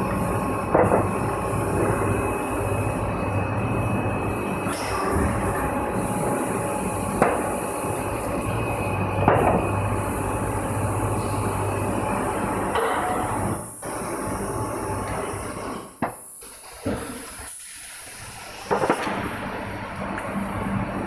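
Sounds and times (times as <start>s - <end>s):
hydraulic hum: 0.0s - 21.0s.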